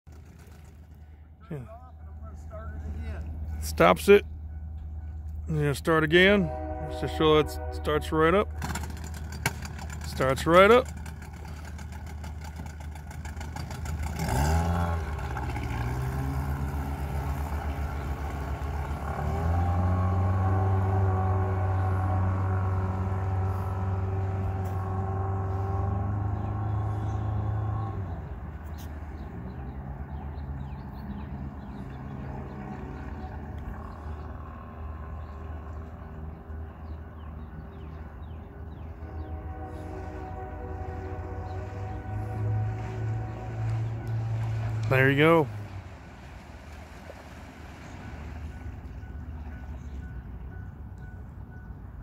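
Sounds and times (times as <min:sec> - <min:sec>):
boat engine revving: 0:00.1 - 0:51.4.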